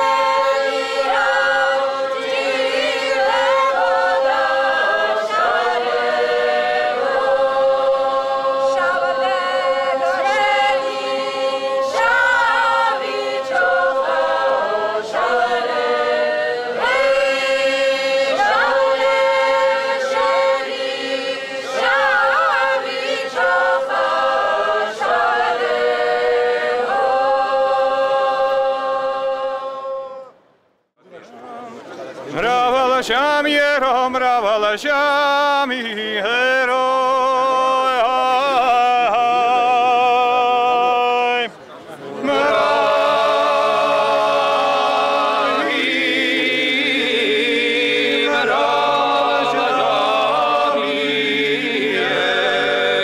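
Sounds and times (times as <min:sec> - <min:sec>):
unaccompanied polyphonic singing: 0:00.0 - 0:30.4, 0:32.4 - 0:53.0.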